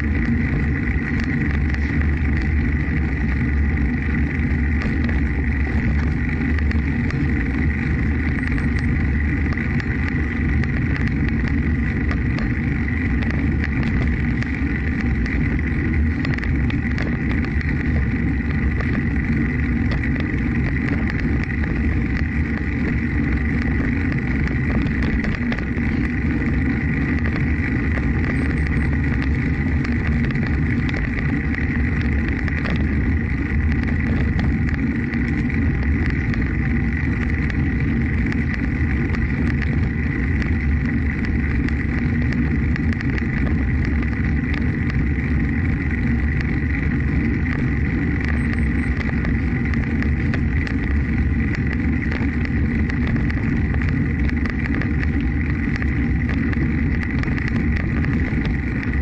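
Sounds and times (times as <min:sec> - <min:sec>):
faint high whine: 0:00.0 - 0:59.0
wind rumble on microphone: 0:00.0 - 0:59.0.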